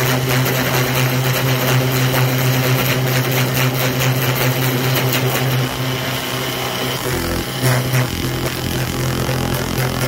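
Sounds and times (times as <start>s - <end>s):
pressure washer motor hum: 0.0s - 10.0s.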